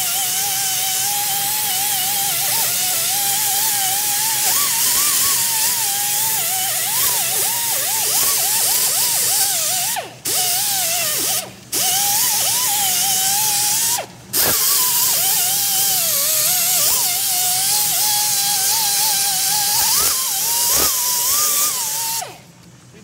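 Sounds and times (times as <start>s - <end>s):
air ratchet motor whine: 0.0s - 22.5s.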